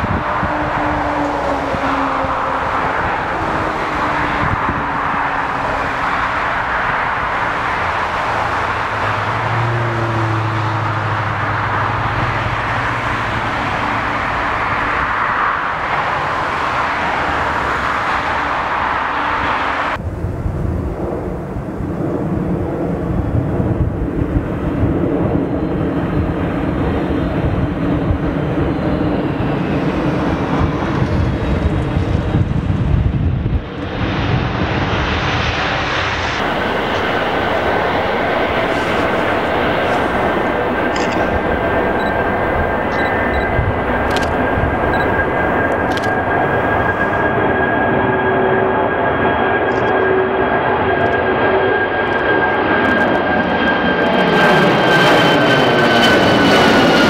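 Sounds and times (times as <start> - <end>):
deep rumbling jet noise: 0.0 - 57.0
jet engines at takeoff: 0.0 - 57.0.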